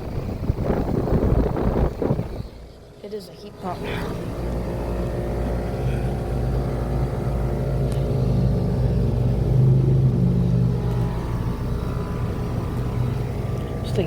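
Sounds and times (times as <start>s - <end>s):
compressor humming: 0.0s - 14.0s
condenser fan airflow: 0.0s - 14.0s.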